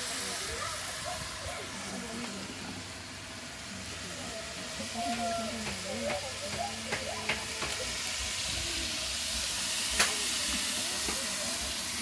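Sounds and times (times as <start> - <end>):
cooking pot steam hissing: 0.0 - 12.0.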